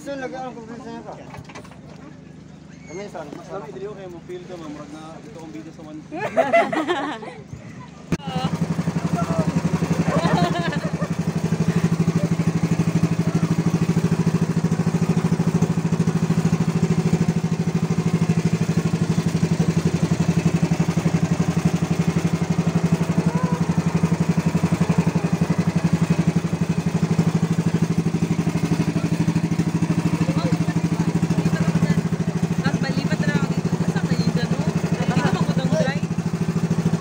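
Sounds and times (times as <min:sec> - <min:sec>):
boat engine puttering: 0:00.0 - 0:37.0.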